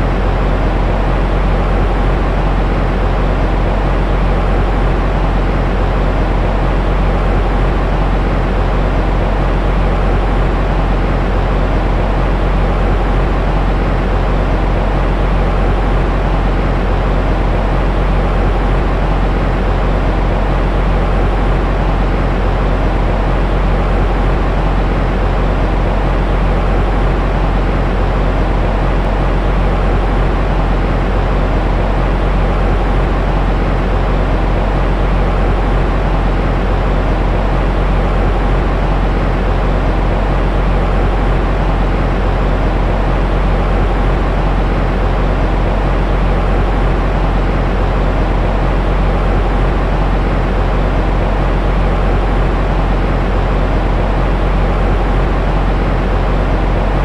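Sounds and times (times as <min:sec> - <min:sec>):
white noise: 0:00.0 - 0:57.0.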